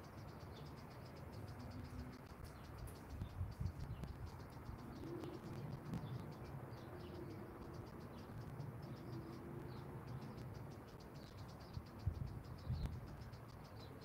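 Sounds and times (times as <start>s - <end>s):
steady low rumble: 0.2s - 13.9s.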